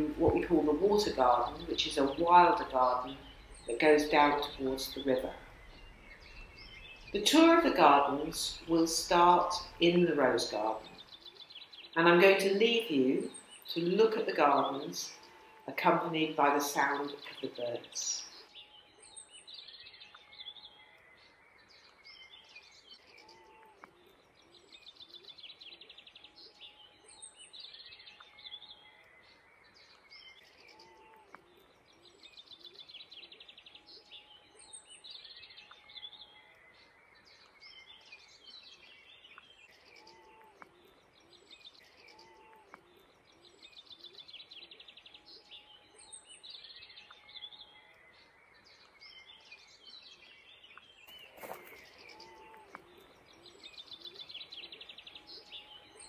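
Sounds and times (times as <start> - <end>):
songbirds singing faintly: 0.0 - 56.0.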